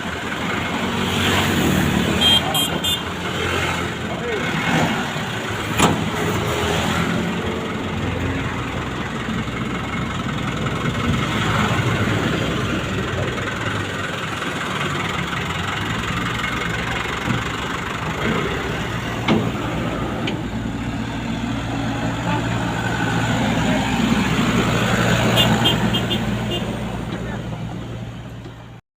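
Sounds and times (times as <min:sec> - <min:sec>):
truck engine running: 0:00.0 - 0:28.8.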